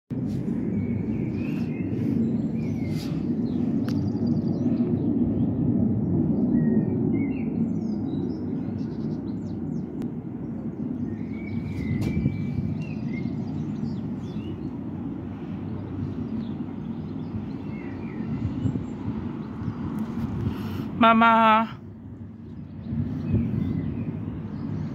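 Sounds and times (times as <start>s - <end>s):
steady low rumble: 0.1s - 24.9s
small birds chirping: 0.5s - 24.9s.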